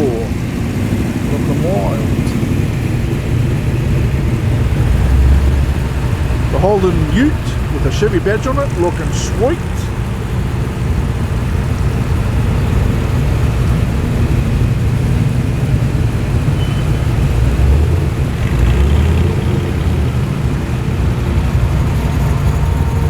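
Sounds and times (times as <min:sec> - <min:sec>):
muscle car engines rumbling past: 0:00.0 - 0:23.0.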